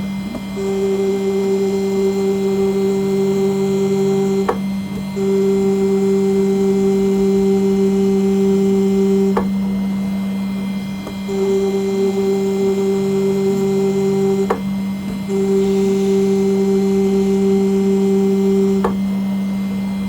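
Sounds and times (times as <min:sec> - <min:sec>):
engraving machine hum: 0:00.0 - 0:20.0
high machine whine: 0:00.0 - 0:20.0.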